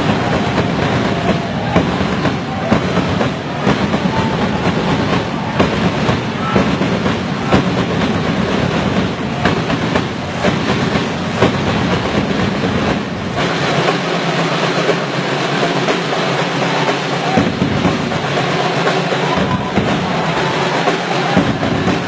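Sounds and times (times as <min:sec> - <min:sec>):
drum beating: 0:00.0 - 0:22.0.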